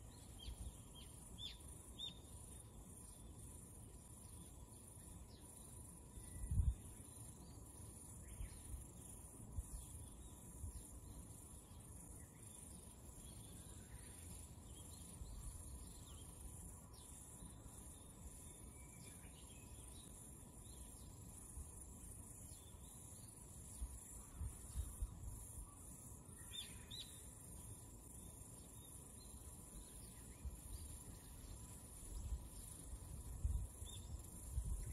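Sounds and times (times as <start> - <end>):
faint bird chirps: 0.0 - 34.9
high-pitched insect trilling: 0.0 - 34.9.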